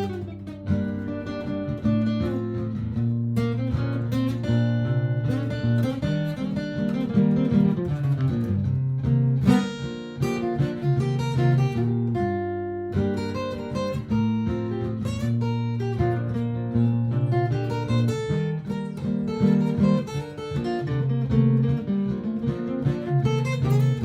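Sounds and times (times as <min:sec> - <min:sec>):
acoustic guitar picked notes: 0:00.0 - 0:24.0
looped guitar backing: 0:00.0 - 0:24.0.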